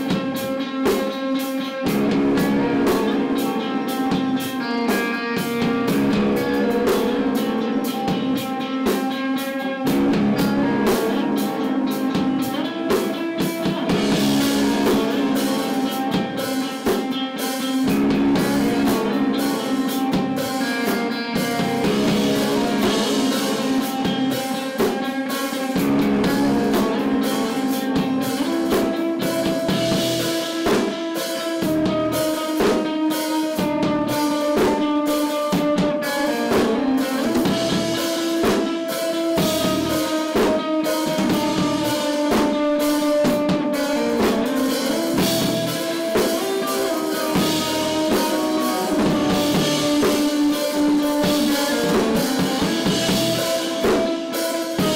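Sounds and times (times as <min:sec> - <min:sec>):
drum kit: 0:00.0 - 0:54.9
electric guitars sustained notes: 0:00.0 - 0:54.9.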